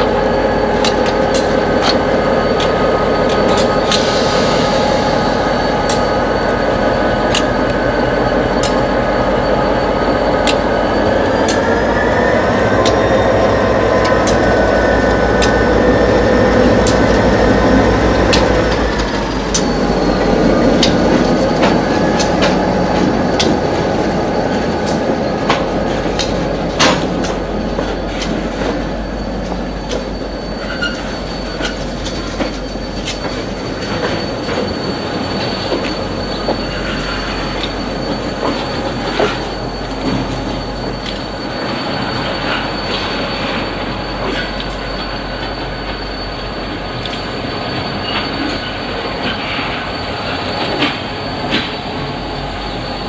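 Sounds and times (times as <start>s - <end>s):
locomotive engine droning: 0.0s - 53.0s
thin steady wheel squeal: 0.0s - 53.0s.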